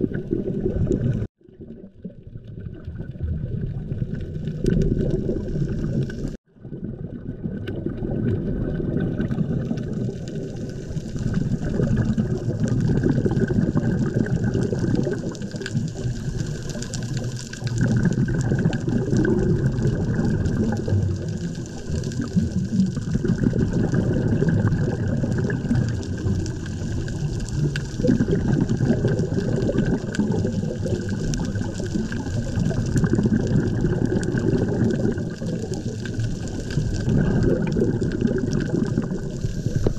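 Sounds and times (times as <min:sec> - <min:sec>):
diver's regulator and bubbles gurgling: 0:00.0 - 0:39.9.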